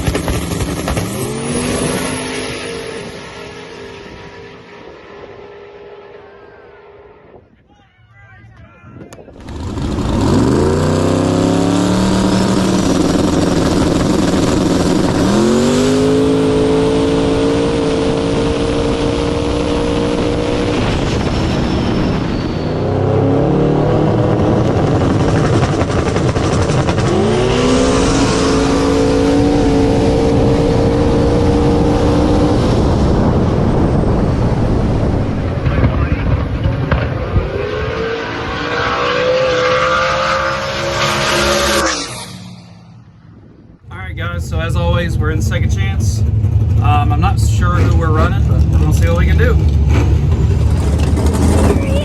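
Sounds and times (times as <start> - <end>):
race car engine revving: 0.0 - 7.4, 9.4 - 43.2, 43.9 - 52.0.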